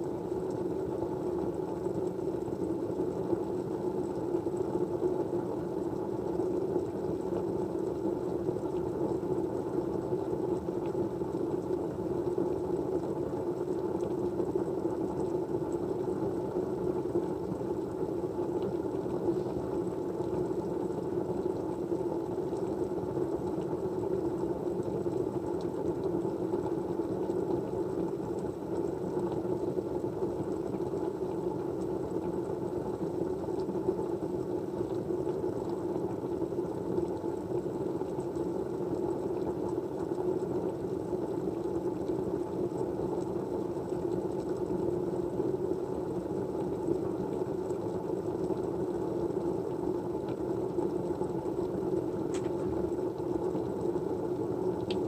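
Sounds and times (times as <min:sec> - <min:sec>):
white noise: 0:00.0 - 0:55.0.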